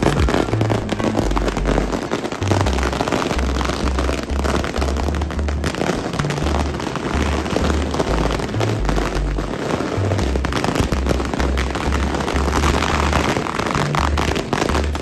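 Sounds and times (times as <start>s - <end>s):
background music with bass: 0.0s - 15.0s
firecrackers crackling: 0.0s - 15.0s.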